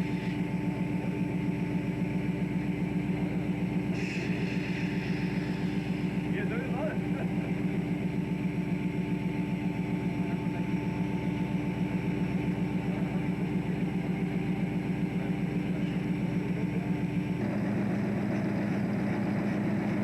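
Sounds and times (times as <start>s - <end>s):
diesel boat engine running: 0.0s - 20.0s.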